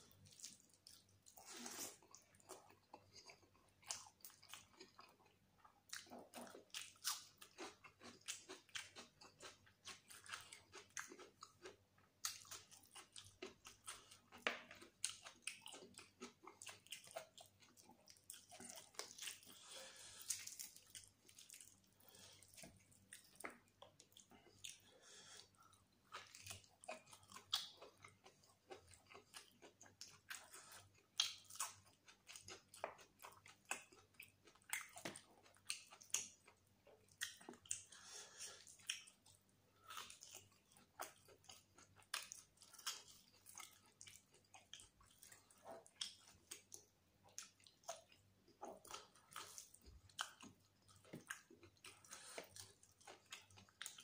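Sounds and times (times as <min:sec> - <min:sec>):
wet chewing and lip smacks: 0:00.1 - 0:54.0.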